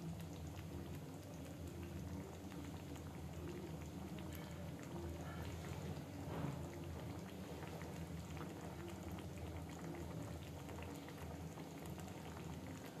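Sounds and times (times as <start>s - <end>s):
curry bubbling and popping: 0.0s - 13.0s.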